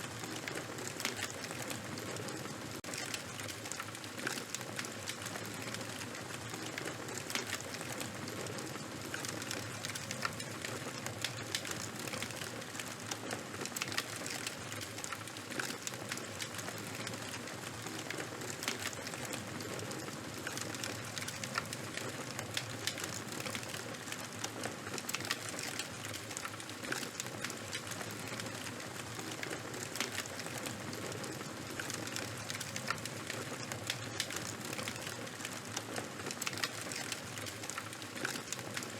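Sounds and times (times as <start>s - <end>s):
fire crackling and hissing: 0.0s - 38.9s.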